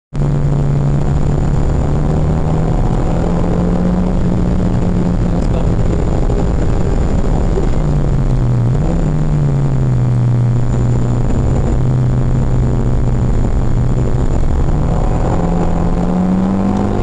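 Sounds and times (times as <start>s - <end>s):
road rumble: 0.1s - 17.0s
car engine pulling hard: 0.2s - 17.0s.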